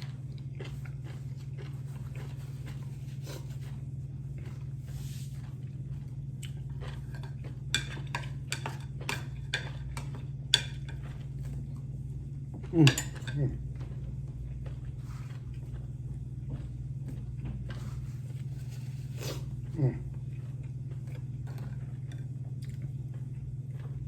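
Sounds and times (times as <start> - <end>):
chewing and crunching food: 0.0 - 24.0
steady low hum: 0.0 - 24.0.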